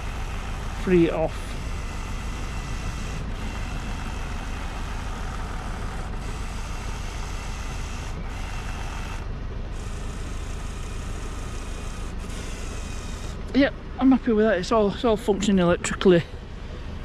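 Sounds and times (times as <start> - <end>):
door mirror motor whirring: 0.0 - 14.1
car engine idling: 0.0 - 17.0.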